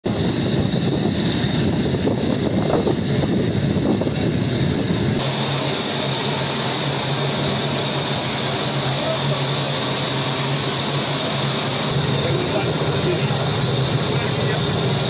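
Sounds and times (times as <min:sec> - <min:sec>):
vehicle and aircraft engines: 0:00.0 - 0:15.0.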